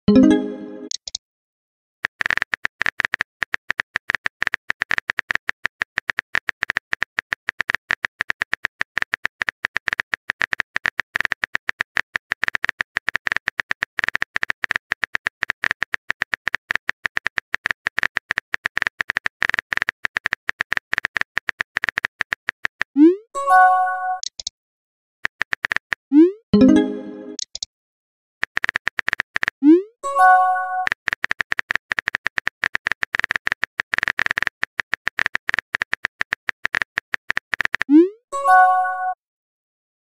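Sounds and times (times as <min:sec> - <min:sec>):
keyboard typing clicks: 0:00.1 - 0:01.2, 0:02.0 - 0:23.1, 0:24.0 - 0:24.5, 0:26.6 - 0:27.7, 0:28.4 - 0:29.6, 0:30.2 - 0:39.1.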